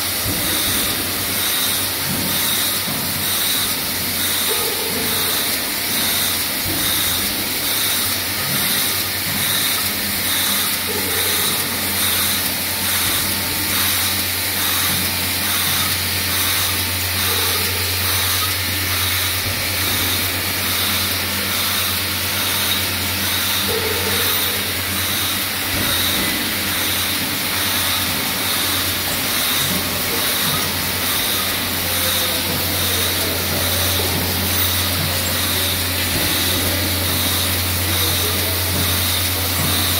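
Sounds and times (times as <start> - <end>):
continuous pneumatic hiss: 0.0 - 39.9
rhythmic mechanical clatter: 0.0 - 39.9.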